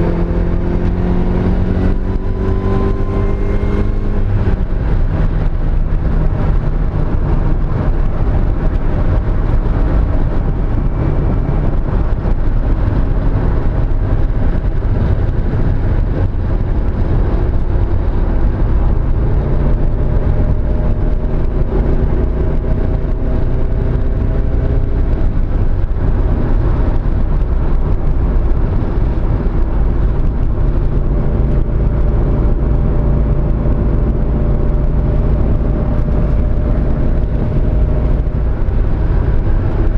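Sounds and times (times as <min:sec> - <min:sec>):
car engine running hard: 0:00.0 - 0:39.9
road rumble: 0:00.0 - 0:39.9
wind noise: 0:00.0 - 0:39.9.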